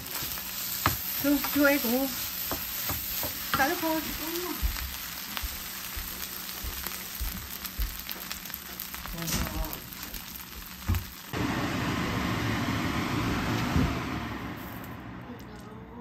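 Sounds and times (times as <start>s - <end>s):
rice sizzling in a pan: 0.0s - 15.2s.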